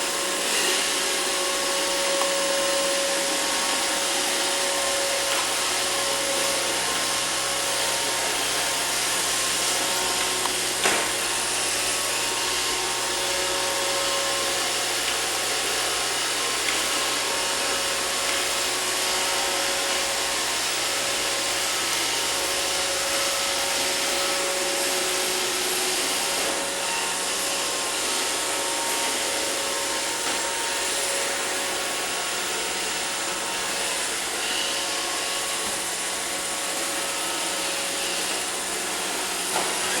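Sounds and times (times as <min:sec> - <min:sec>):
robot vacuum running: 0:00.0 - 0:40.0.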